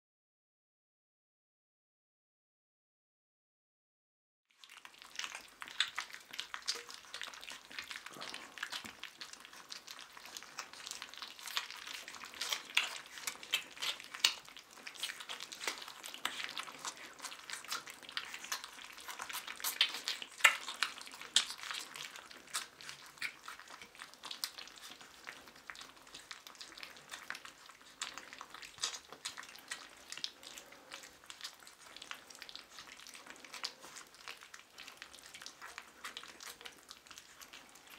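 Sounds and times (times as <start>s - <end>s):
puppies eating wet smacking: 4.5s - 37.9s.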